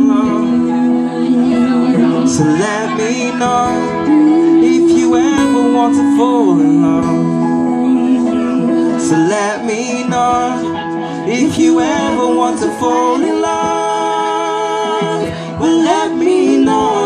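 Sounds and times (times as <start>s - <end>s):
acoustic guitar: 0.0s - 17.0s
keyboard: 0.0s - 17.0s.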